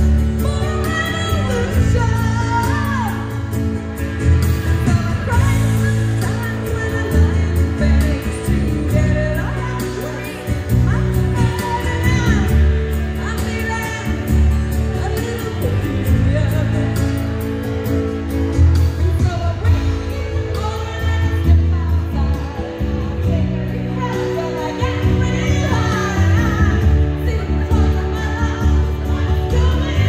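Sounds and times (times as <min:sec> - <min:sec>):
woman singing into microphone: 0:00.0 - 0:30.0.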